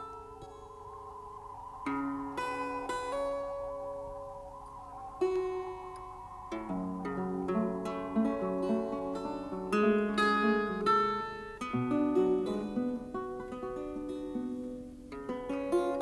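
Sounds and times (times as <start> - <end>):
plucked string instrument music: 1.8 - 16.0.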